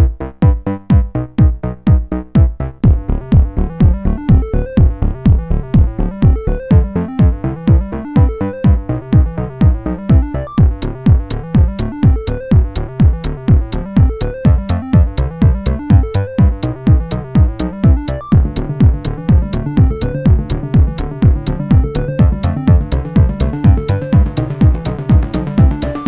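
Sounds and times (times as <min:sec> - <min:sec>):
drum machine beat: 0:00.0 - 0:26.0.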